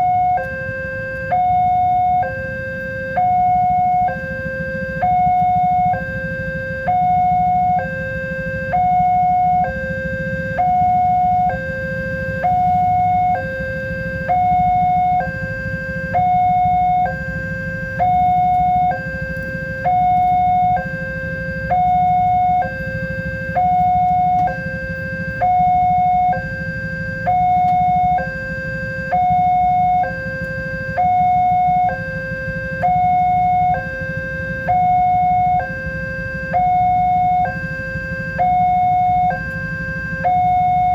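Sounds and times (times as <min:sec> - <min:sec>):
level crossing alarm two-tone: 0:00.0 - 0:40.9.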